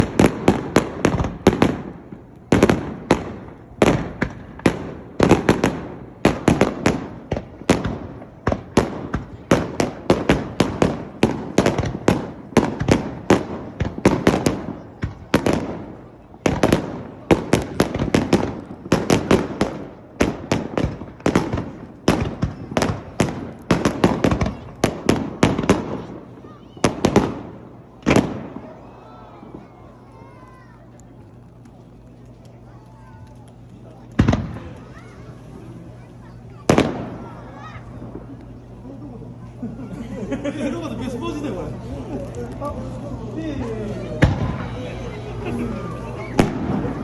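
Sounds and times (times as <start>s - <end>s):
fireworks bursting: 0.0s - 39.6s, 41.0s - 47.0s.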